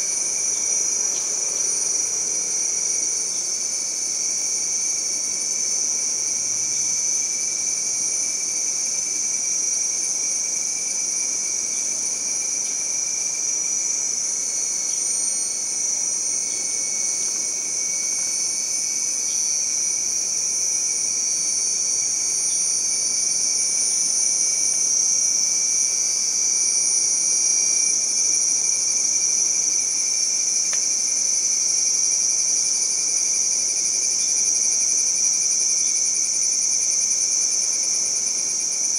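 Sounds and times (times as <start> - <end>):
insect chorus shrill drone: 0.0 - 38.9.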